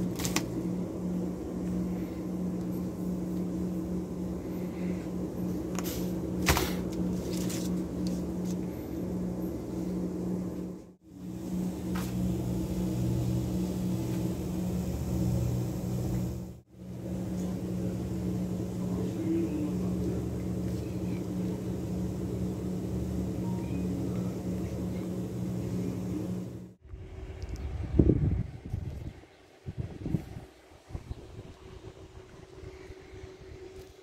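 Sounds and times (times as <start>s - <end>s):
refrigerated display cases humming: 0.0s - 34.0s.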